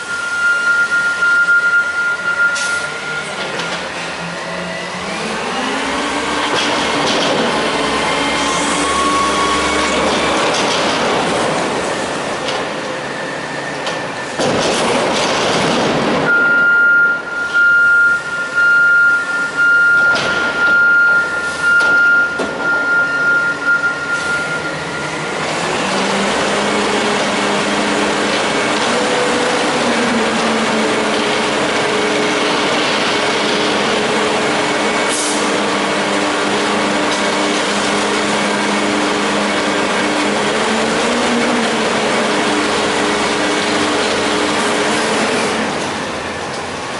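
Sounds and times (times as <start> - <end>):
garbage truck engine and hydraulics: 0.0 - 46.9.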